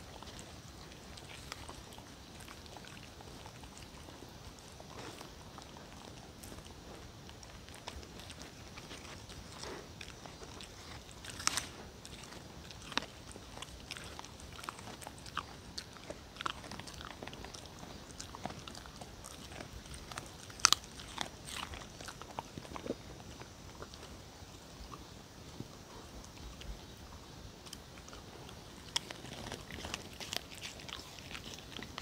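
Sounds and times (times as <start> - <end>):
dog chewing crunchy peel: 0.0 - 32.0.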